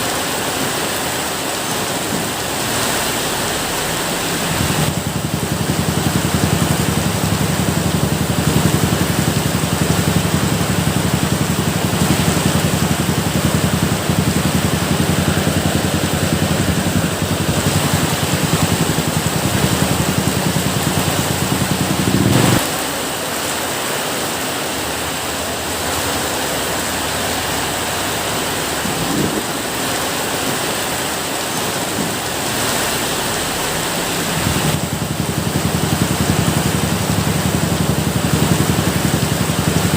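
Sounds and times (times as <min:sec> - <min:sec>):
heavy rain hissing: 0:00.0 - 0:39.9
low steady rumble: 0:00.1 - 0:23.9, 0:25.2 - 0:39.9.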